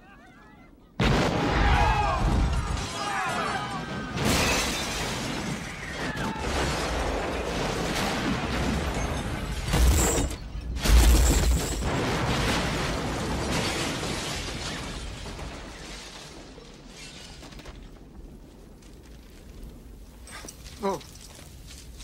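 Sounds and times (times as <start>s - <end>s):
wooden buildings exploding: 0.0s - 22.0s
debris crashing and clattering: 1.0s - 22.0s.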